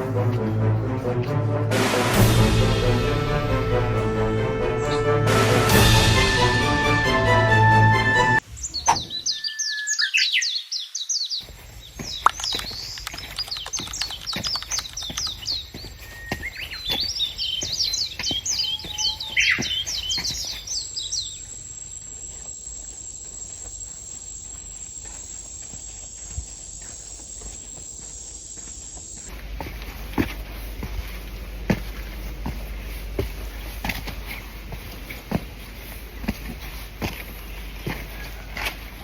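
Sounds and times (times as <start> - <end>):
birds chirping: 4.6 - 5.3, 8.4 - 39.0.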